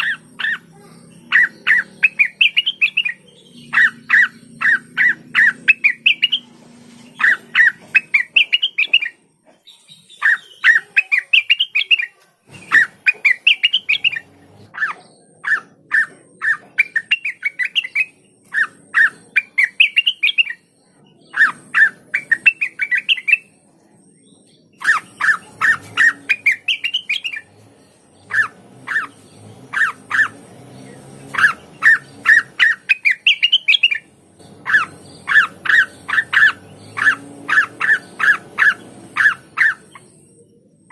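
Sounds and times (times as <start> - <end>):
bird singing sharp chattering notes: 0.0 - 40.9.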